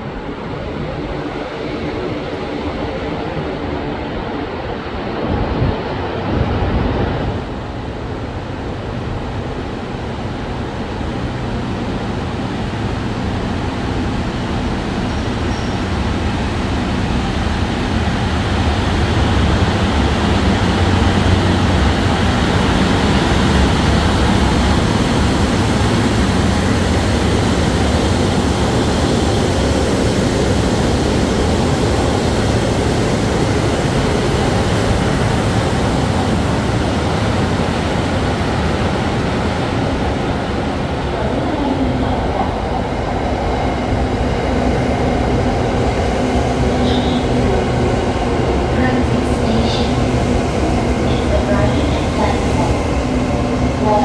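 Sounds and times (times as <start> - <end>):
diesel train rumbling: 0.0 - 54.0
electric train whine: 0.0 - 54.0.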